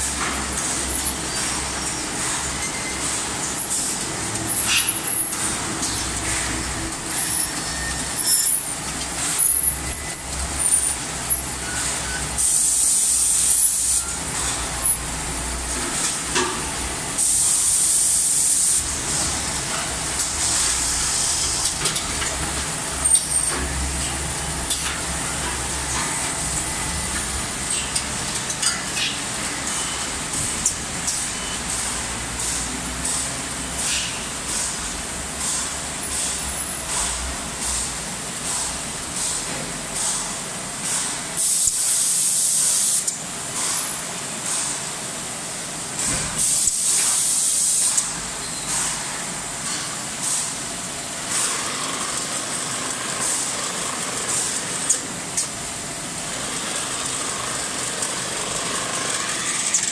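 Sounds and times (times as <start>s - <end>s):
machine clanks and clicks: 0.0s - 42.0s, 51.3s - 55.6s, 56.3s - 59.9s.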